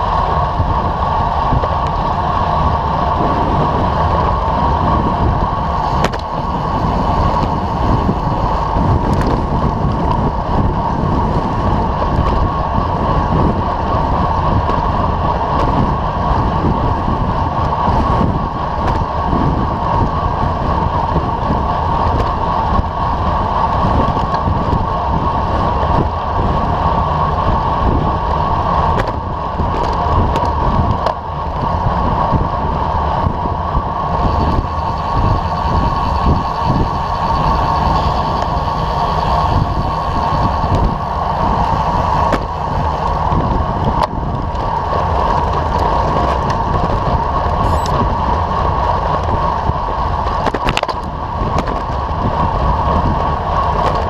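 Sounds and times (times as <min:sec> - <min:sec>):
road and tyre rumble: 0:00.0 - 0:54.0
wind on microphone: 0:00.0 - 0:54.0.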